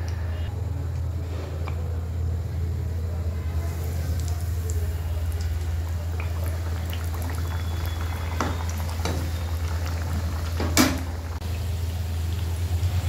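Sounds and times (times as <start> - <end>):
oil bubbling and crackling: 0.8 - 13.0.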